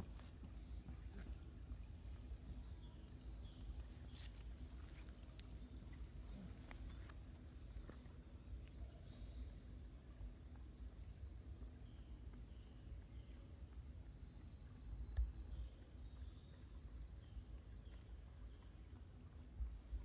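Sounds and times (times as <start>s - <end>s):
faint low rumble: 0.0s - 14.0s, 14.8s - 20.0s
songbird chirping: 0.0s - 19.6s.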